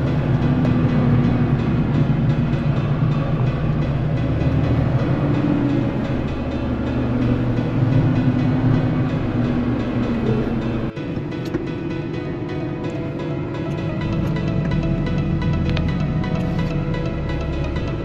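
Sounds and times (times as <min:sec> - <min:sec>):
combine harvester droning: 0:00.0 - 0:18.0.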